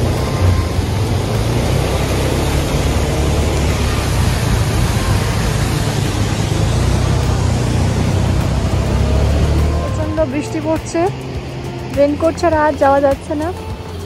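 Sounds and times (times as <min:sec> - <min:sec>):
motorcycle engine rumble: 0:00.0 - 0:14.0.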